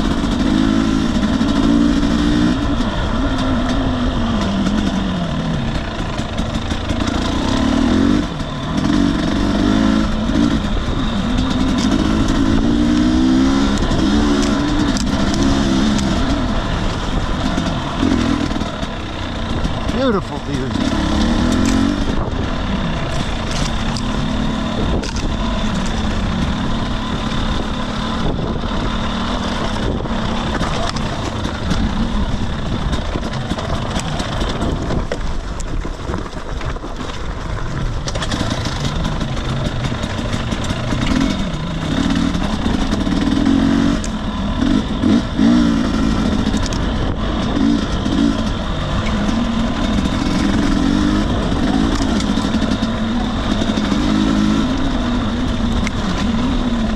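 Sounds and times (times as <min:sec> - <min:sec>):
dirt bike engine revving: 0:00.0 - 0:35.5, 0:37.4 - 0:56.9.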